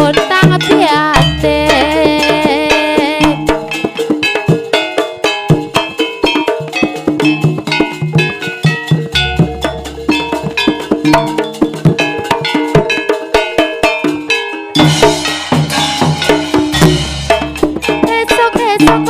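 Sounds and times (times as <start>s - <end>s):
drums: 0.0s - 19.0s
gamelan music: 0.0s - 19.0s.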